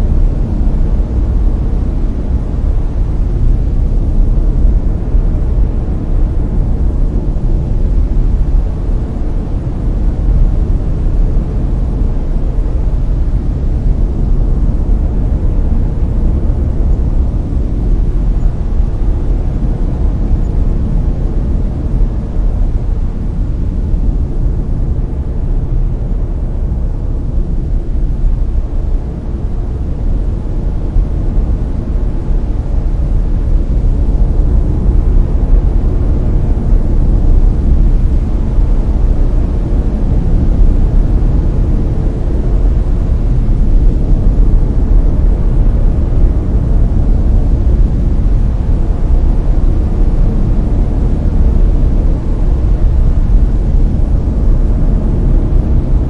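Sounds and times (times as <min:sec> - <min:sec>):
deep rumbling brown noise: 0:00.0 - 0:56.0.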